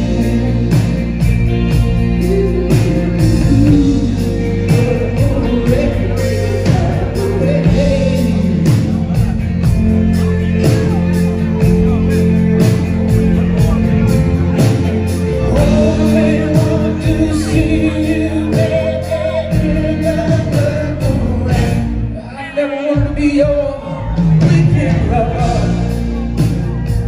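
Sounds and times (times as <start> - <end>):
steady drum beat: 0.0 - 22.1, 23.0 - 27.0
live band playing: 0.0 - 27.0
person singing: 0.0 - 27.0.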